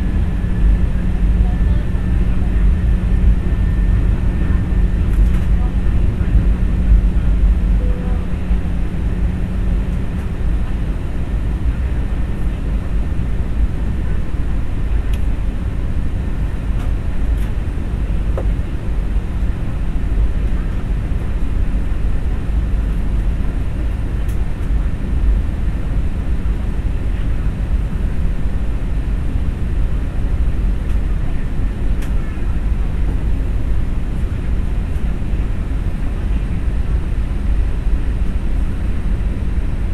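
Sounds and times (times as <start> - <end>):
airliner engines rumbling: 0.0 - 39.9
low hum: 0.0 - 39.9.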